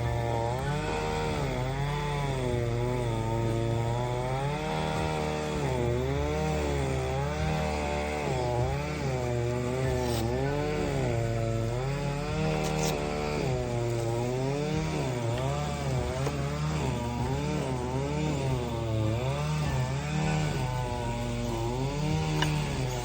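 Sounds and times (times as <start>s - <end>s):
string trimmer engine cutting grass: 0.0s - 23.0s.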